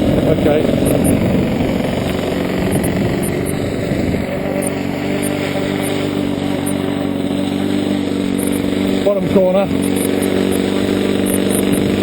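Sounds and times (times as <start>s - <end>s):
model aircraft engine running: 0.0s - 12.0s
wind rumbling on microphone: 0.0s - 12.0s.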